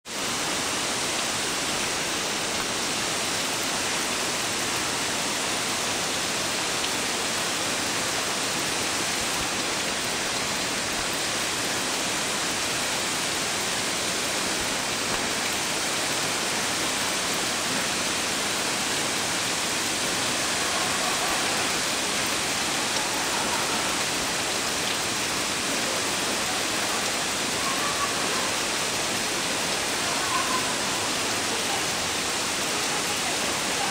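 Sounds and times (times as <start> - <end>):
waterfall crashing into pool: 0.1 - 33.9.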